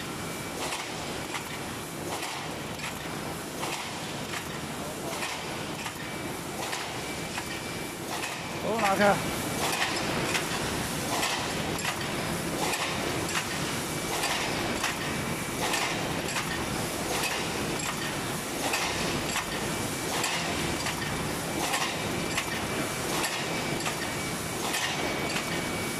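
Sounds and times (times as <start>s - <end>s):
machine running steadily: 0.0s - 25.9s.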